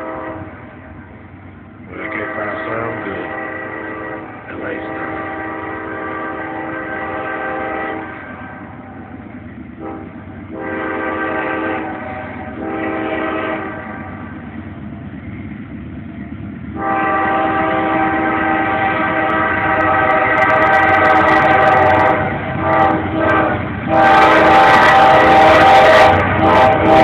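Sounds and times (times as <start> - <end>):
locomotive air horn blasts: 0.0 - 0.6, 2.0 - 8.8, 9.8 - 14.3, 16.8 - 27.0
train rumble: 0.0 - 27.0.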